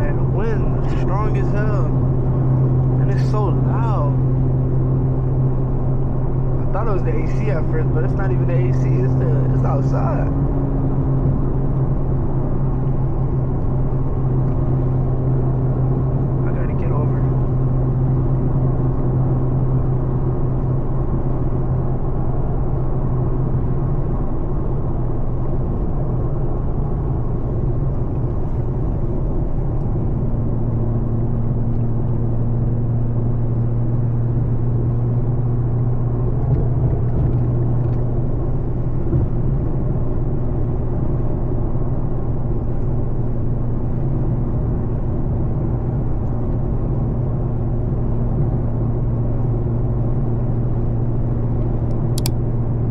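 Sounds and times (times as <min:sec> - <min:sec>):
car engine and exhaust drone: 0:00.0 - 0:52.9
wind and road noise: 0:00.0 - 0:52.9.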